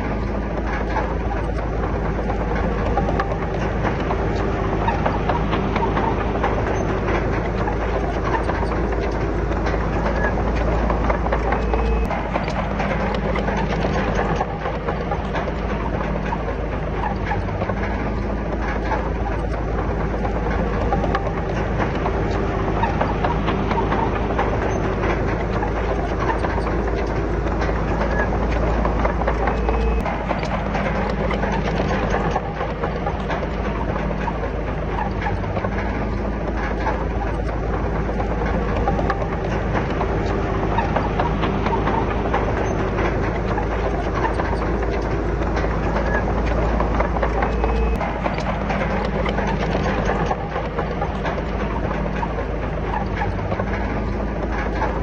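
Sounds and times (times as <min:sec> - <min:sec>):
bulldozer diesel engine running: 0:00.0 - 0:55.0
steel tracks clattering: 0:00.0 - 0:55.0.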